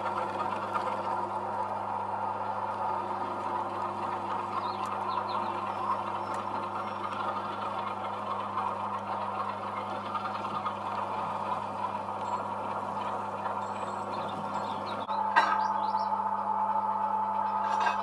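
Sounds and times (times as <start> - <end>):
model train mechanical hum: 0.0 - 18.0.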